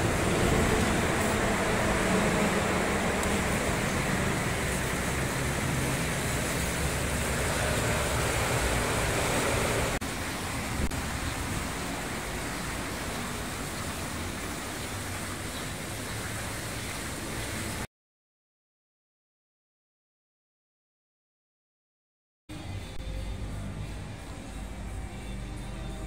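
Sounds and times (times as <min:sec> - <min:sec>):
city street traffic: 0:00.0 - 0:17.9, 0:22.5 - 0:26.0.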